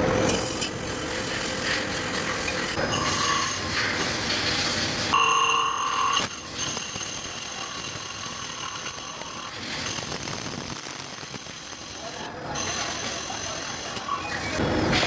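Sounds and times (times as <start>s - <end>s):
machine noise: 0.0s - 15.0s.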